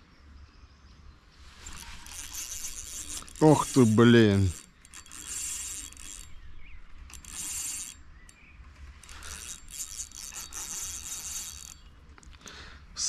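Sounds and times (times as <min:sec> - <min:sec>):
fishing reel clicking: 0:01.6 - 0:12.4.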